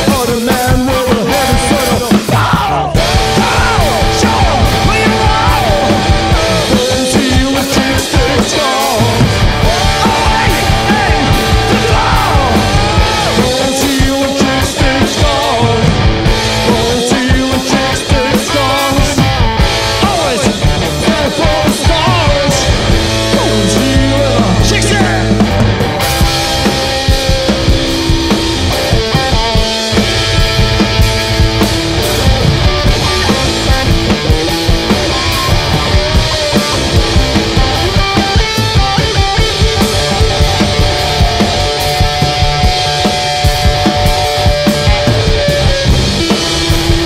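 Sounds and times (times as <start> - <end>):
drum kit: 0.0 - 47.0
electric guitar: 0.0 - 47.0
live rock band: 0.0 - 47.0.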